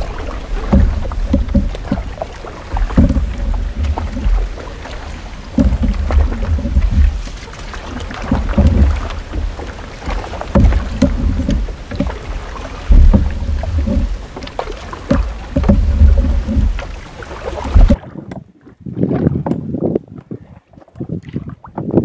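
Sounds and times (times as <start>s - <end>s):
short knocks: 0.0s - 18.0s
paddle strokes in water: 0.0s - 22.0s
wind rumble on microphone: 0.0s - 22.0s.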